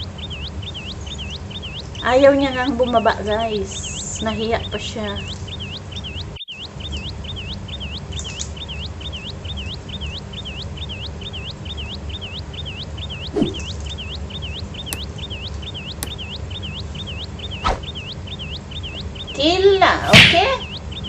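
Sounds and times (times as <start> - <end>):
high repeated chirp: 0.0 - 3.1, 3.7 - 19.5.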